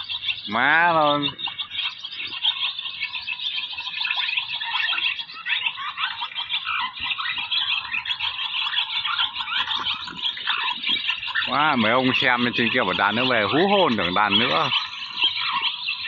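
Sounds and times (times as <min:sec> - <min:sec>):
swallows twittering: 0:00.0 - 0:16.0.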